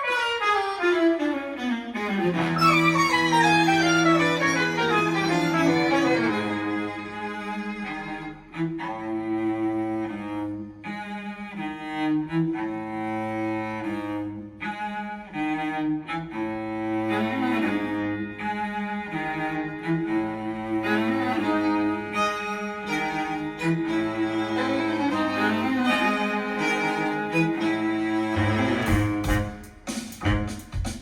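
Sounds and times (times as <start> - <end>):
bowed string music: 0.0 - 31.0.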